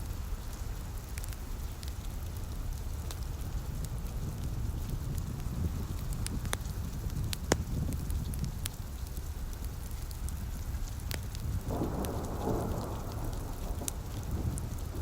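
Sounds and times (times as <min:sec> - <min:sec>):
low continuous rumble: 0:00.0 - 0:15.0
steady rain: 0:00.0 - 0:15.0
fireplace crackling and popping: 0:00.2 - 0:15.0.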